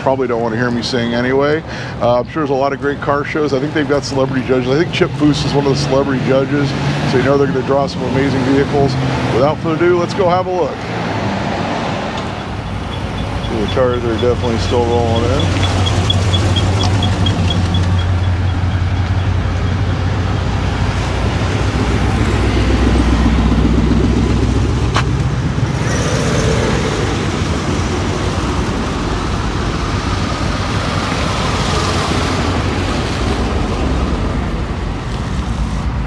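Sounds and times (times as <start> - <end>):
car engines rumbling: 0.0 - 36.0.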